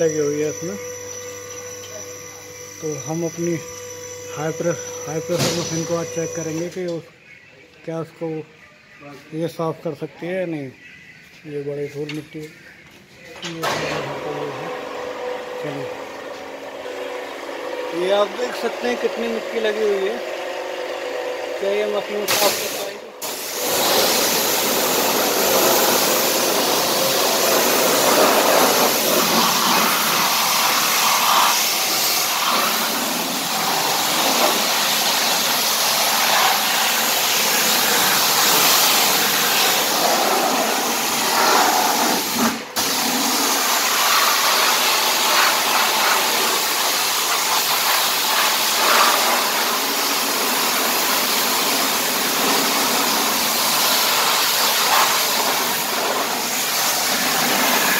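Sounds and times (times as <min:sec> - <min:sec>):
pressure washer spraying water: 0:00.0 - 0:06.8, 0:16.7 - 0:57.9.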